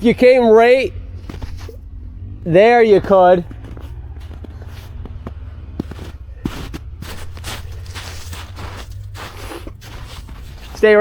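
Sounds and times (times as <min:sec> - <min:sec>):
steady low rumble: 0:00.0 - 0:10.9
footsteps in snow: 0:01.1 - 0:11.0.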